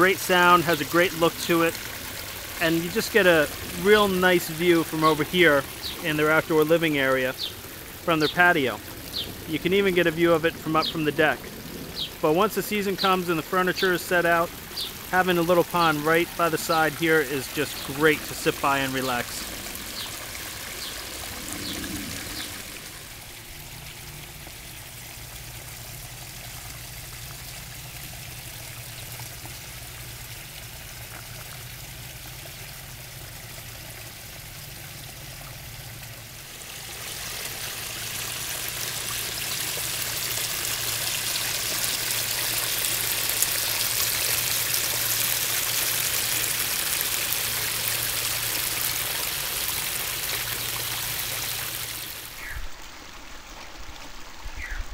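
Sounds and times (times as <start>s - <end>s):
waterfall splashing into pond: 0.0s - 54.9s.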